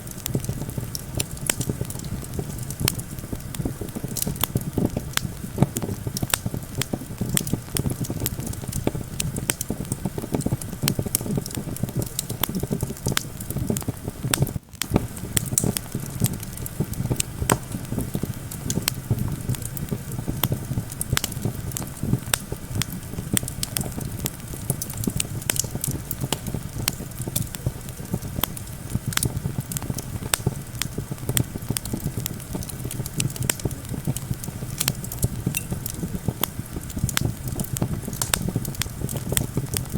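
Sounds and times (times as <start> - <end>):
campfire crackling and popping: 0.0 - 39.9
low rumble of wind: 0.0 - 39.9.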